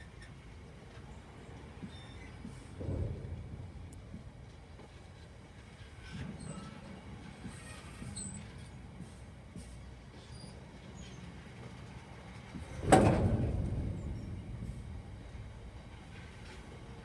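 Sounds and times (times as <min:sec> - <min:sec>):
freight train rumbling past: 0:02.4 - 0:17.0.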